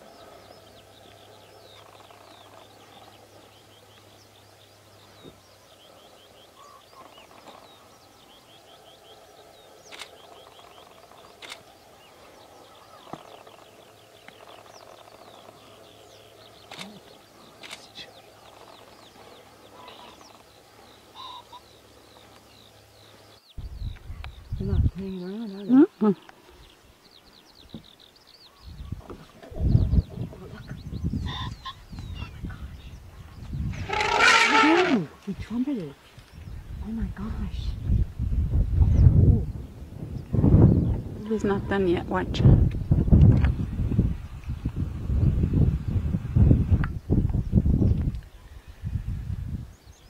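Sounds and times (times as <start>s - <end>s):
birds chirping and trilling: 0.0s - 50.0s.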